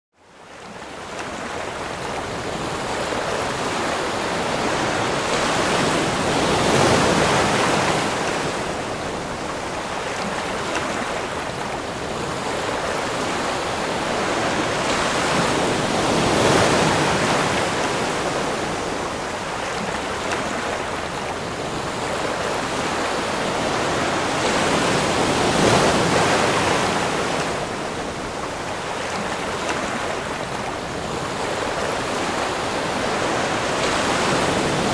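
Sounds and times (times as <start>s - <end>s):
ocean surf: 0.3s - 34.9s.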